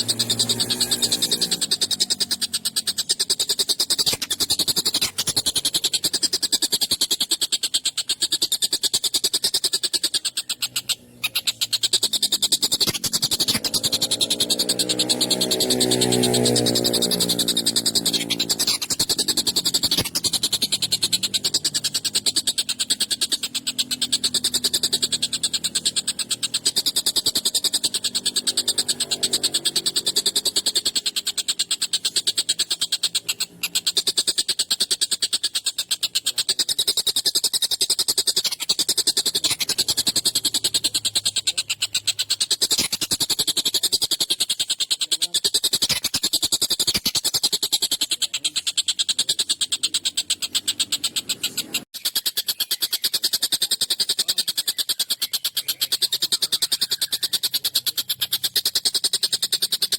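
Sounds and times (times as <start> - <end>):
kingfisher harsh chattering rattle: 0.0 - 59.9.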